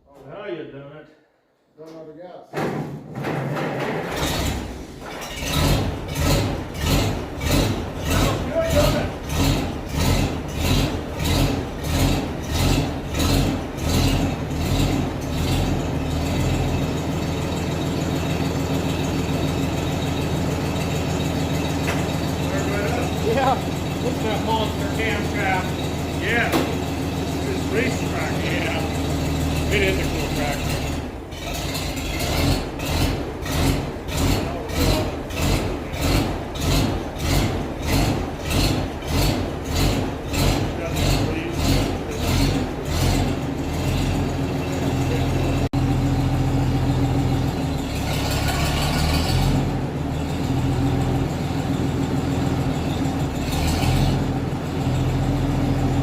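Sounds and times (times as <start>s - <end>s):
tractor engine chugging: 4.2s - 56.0s.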